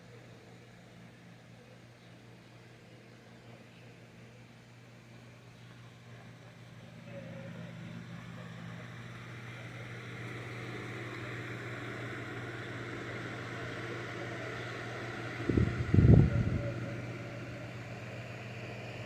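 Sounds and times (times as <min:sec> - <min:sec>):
low machine hum with hiss: 0:00.0 - 0:19.0.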